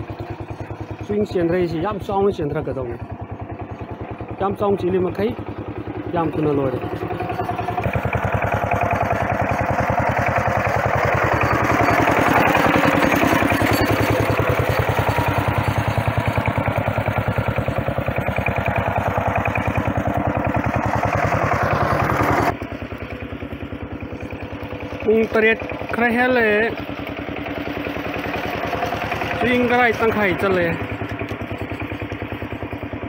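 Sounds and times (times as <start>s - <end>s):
single-cylinder engine running: 0.0s - 33.0s.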